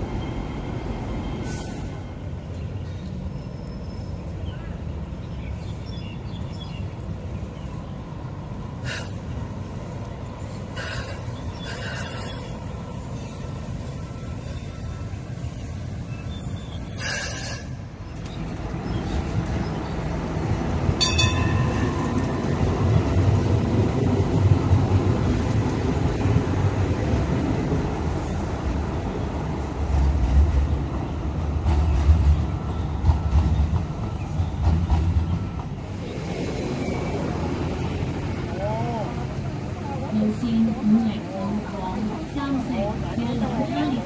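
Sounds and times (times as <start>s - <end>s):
train wheels rumbling: 6.4s - 44.0s.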